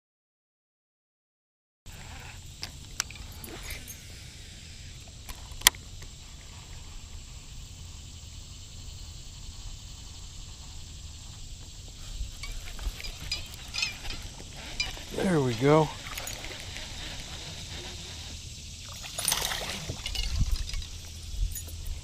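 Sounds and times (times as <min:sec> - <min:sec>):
high insect-like drone: 0:01.9 - 0:22.0.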